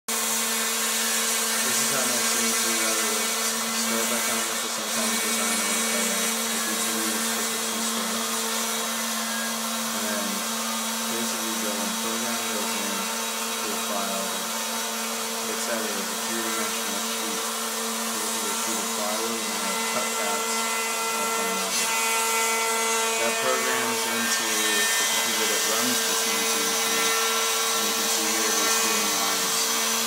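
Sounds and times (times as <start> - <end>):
router spindle motor hum: 0.1 - 30.0.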